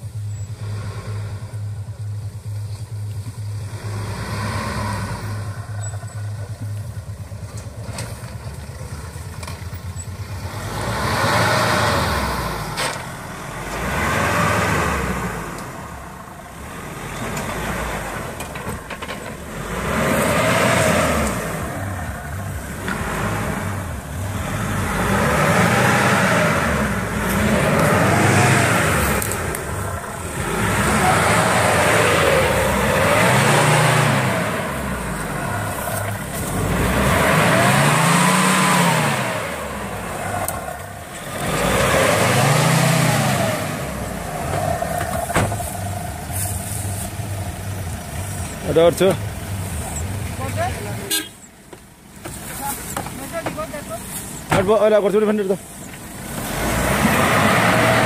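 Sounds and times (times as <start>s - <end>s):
suv engine labouring and revving: 0.0s - 58.0s.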